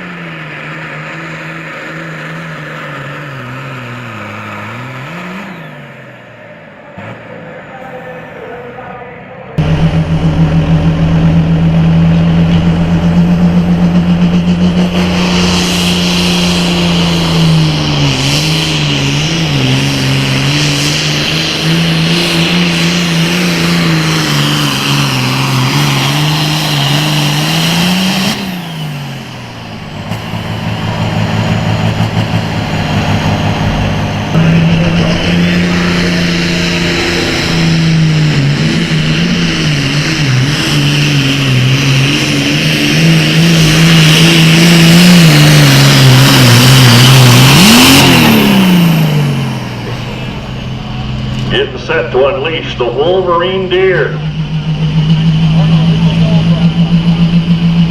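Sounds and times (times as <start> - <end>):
tractor diesel engine revving: 0.0 - 57.9.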